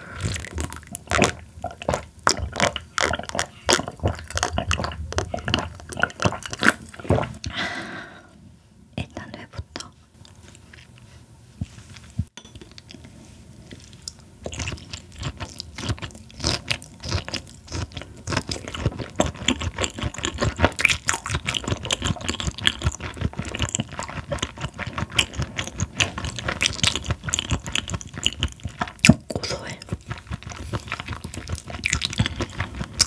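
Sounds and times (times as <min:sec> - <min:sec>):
wet crunching and clicking chewing: 0:00.1 - 0:07.6, 0:13.7 - 0:33.0.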